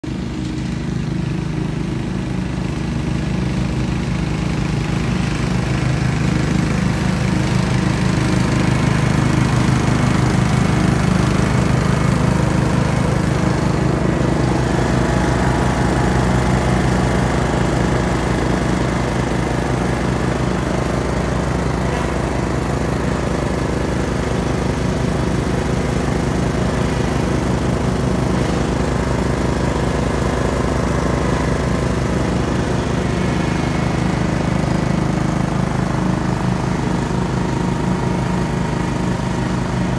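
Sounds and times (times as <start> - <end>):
riding mower running: 0.0 - 39.9.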